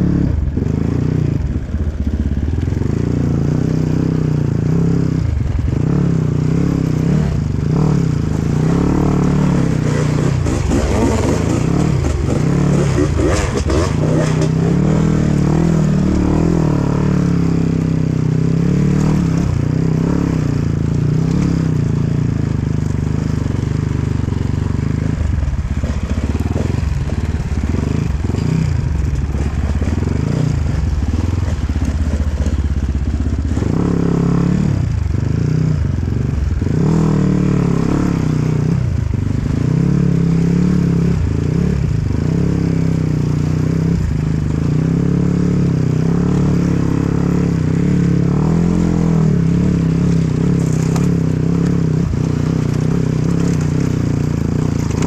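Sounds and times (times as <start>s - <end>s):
dirt bike engine revving: 2.2s - 55.0s.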